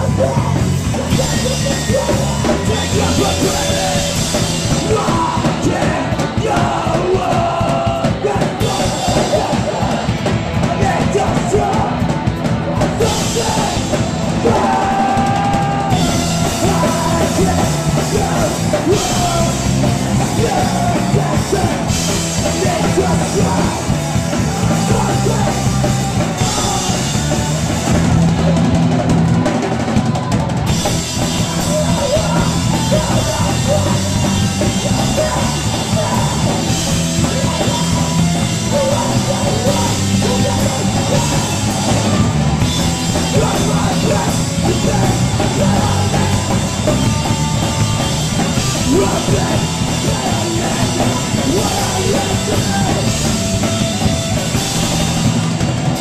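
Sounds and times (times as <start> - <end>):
drum kit: 0.0 - 56.0
punk band playing live: 0.0 - 56.0.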